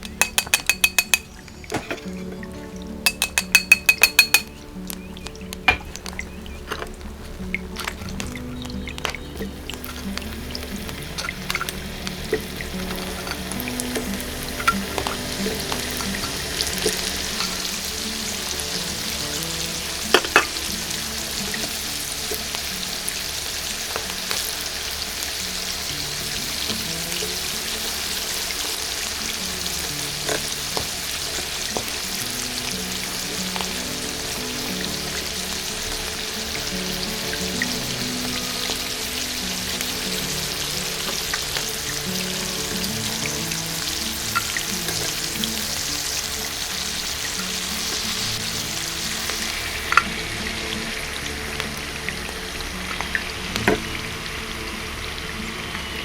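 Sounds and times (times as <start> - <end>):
oil sizzling and crackling: 0.0 - 56.0
soft background music: 0.0 - 56.0.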